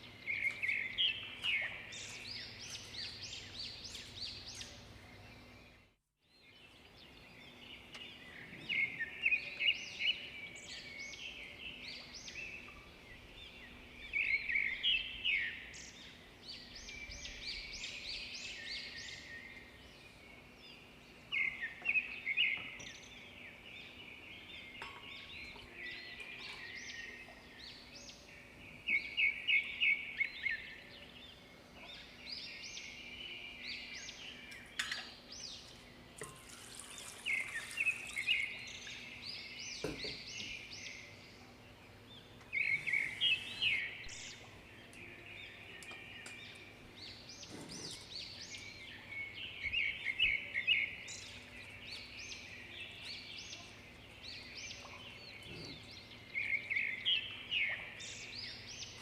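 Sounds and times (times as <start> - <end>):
bird singing trilling phrases: 0.0 - 59.0.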